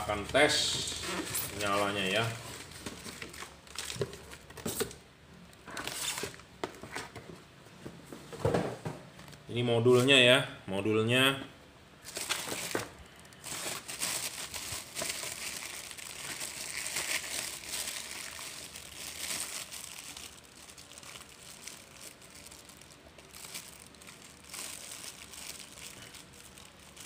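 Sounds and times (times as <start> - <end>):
plastic bag crinkling: 0.0 - 7.0, 12.0 - 27.0.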